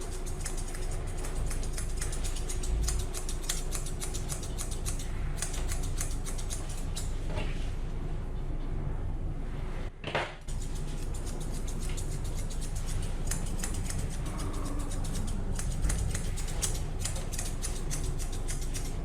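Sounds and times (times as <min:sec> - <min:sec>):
grooming scissors snipping fur: 0:00.0 - 0:07.3, 0:10.5 - 0:19.0
steady low hum: 0:00.0 - 0:19.0.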